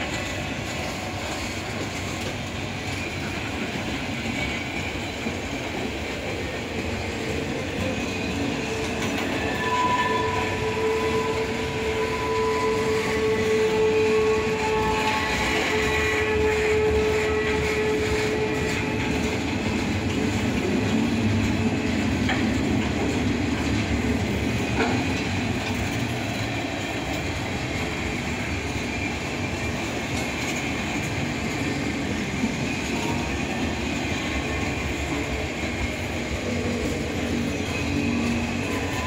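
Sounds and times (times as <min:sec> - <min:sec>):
steel wheels rumbling on rails: 0:00.0 - 0:39.0
wheels clacking over rail joints: 0:00.0 - 0:39.0.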